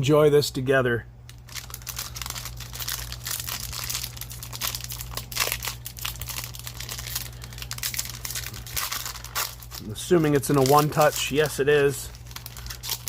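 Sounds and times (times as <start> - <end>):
foil wrapper crinkling and tearing: 1.3 - 13.0.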